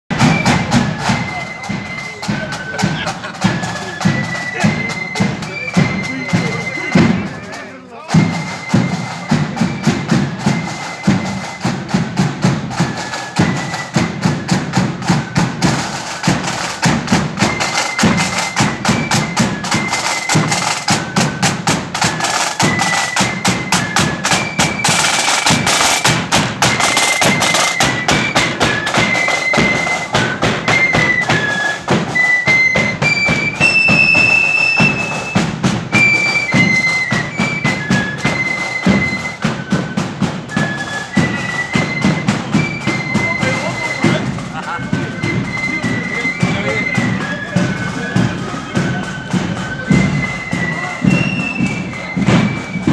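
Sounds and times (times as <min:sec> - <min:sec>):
flute melody: 0:00.1 - 0:52.9
side drums: 0:00.1 - 0:52.9.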